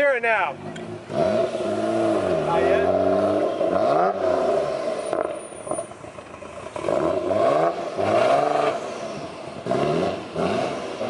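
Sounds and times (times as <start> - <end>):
car engine revving: 0.5 - 11.0.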